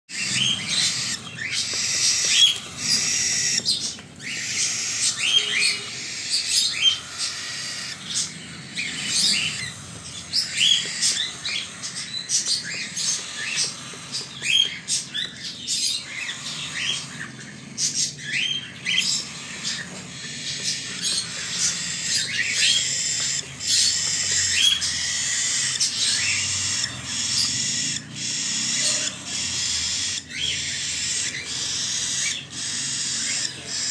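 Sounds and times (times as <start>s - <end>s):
chick begging chirps: 0.1s - 33.9s.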